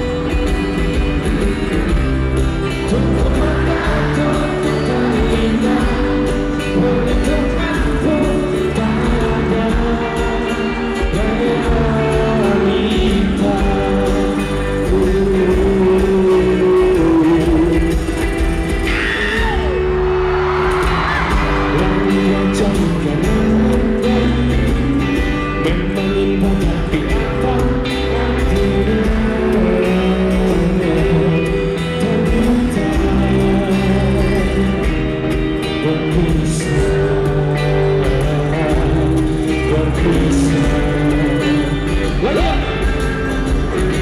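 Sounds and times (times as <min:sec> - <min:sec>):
man singing: 0:00.0 - 0:19.8, 0:20.8 - 0:44.0
live rock band over pa: 0:00.0 - 0:44.0.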